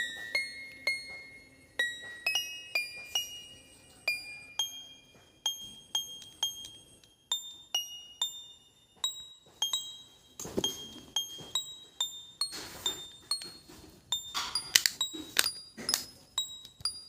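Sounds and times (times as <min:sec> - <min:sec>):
bell-like melody: 0:00.0 - 0:17.0.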